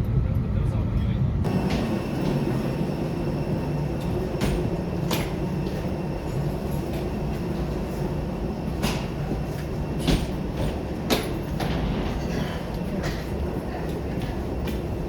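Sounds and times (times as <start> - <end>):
train rumbling: 0.0 - 15.0
rail car knocks: 1.5 - 7.9, 8.5 - 15.0.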